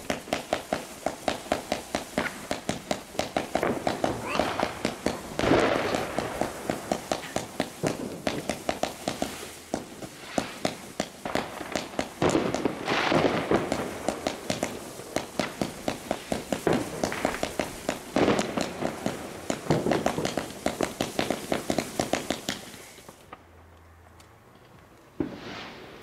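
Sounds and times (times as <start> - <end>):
firework battery firing shots: 0.0 - 23.4.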